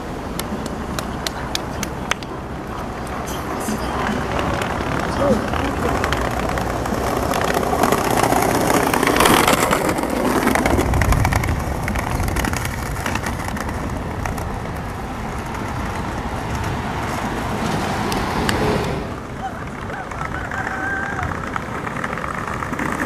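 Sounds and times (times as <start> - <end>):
cars passing: 0.0 - 23.0
low traffic rumble: 0.0 - 23.0.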